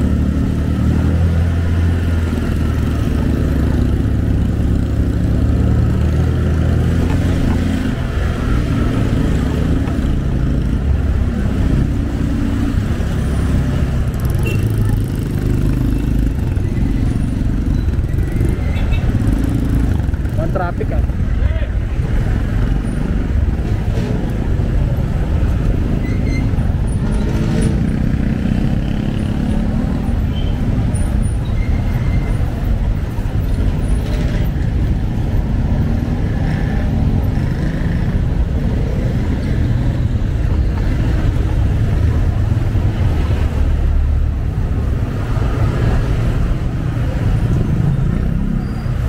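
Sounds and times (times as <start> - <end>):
traffic: 0.0 - 49.0
vehicle driving on a road: 0.0 - 49.0.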